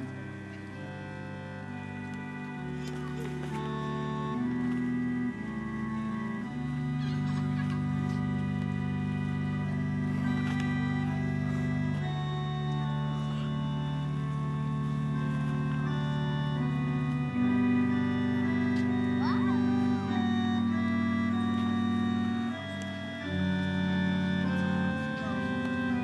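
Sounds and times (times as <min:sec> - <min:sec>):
organ playing held chords: 0:00.0 - 0:26.0.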